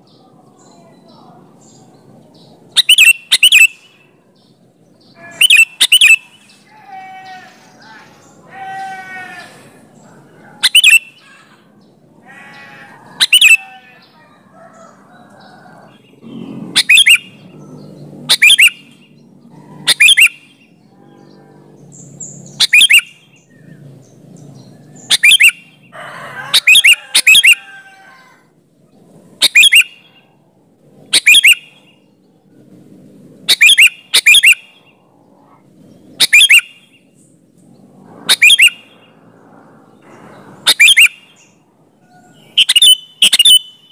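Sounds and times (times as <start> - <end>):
bulbul sharp calls: 0.0 - 30.4, 31.0 - 32.2, 33.2 - 37.2, 38.2 - 39.2, 39.9 - 43.9.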